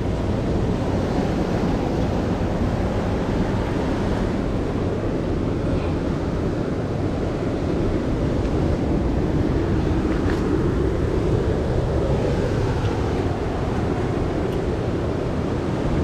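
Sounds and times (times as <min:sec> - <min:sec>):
sea surf breaking on rocks: 0:00.0 - 0:16.0
wind buffeting microphone: 0:00.0 - 0:16.0.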